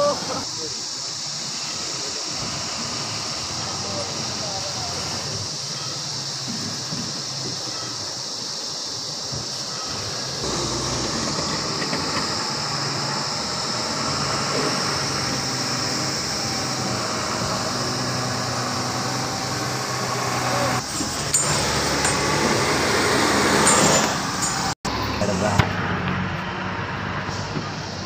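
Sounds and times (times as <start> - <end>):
diesel truck engines running: 0.0 - 28.0
road and cab noise: 0.0 - 28.0.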